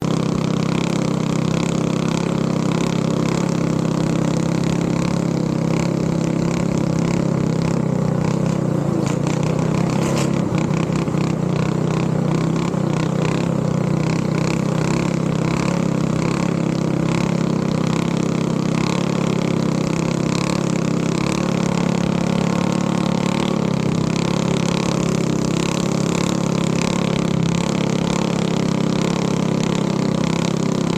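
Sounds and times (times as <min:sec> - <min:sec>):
boat engine running: 0:00.0 - 0:30.9.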